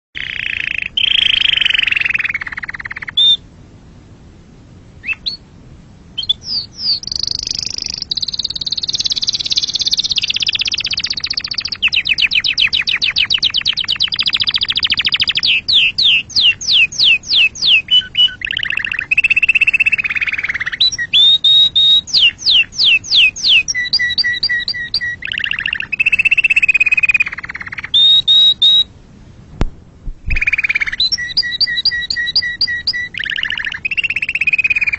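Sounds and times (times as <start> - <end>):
canary singing: 0.2 - 3.5, 5.0 - 5.4, 6.2 - 28.9, 30.2 - 34.9.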